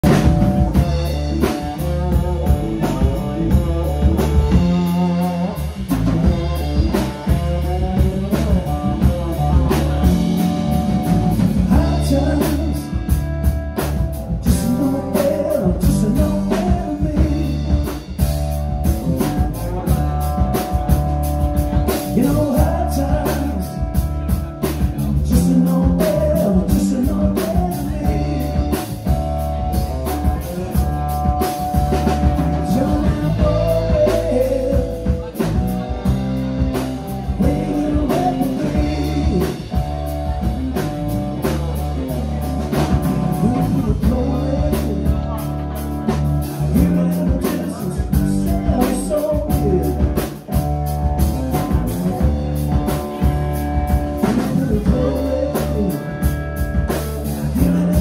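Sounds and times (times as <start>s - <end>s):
blues-rock band playing: 0.0s - 58.0s.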